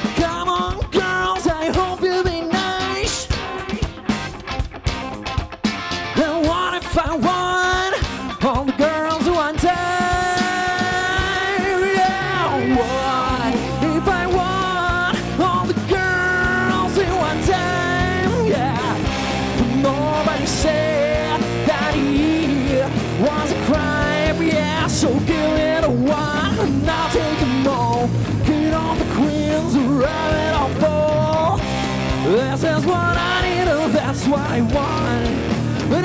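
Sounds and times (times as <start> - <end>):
person singing: 0.0 - 4.6, 6.1 - 36.0
rock band playing loudly: 0.0 - 36.0.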